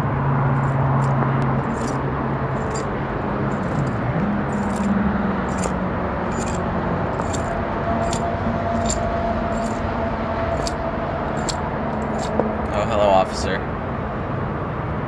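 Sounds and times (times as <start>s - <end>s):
engine and road noise: 0.0s - 15.0s.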